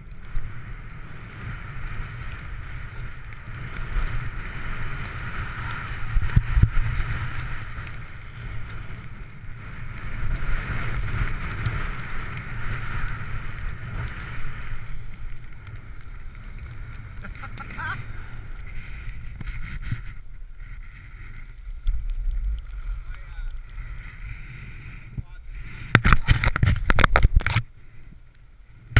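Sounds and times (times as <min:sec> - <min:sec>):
skis carving snow: 0:00.0 - 0:28.9
wind rushing over microphone: 0:00.0 - 0:28.9.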